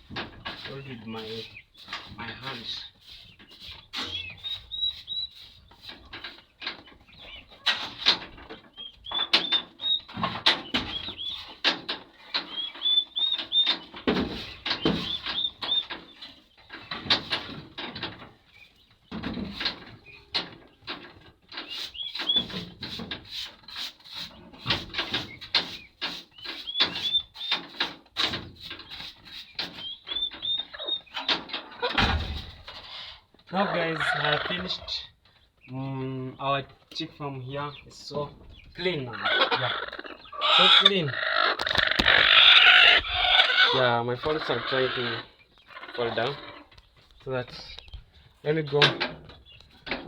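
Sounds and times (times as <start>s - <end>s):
chicks peeping: 0.3s - 50.0s.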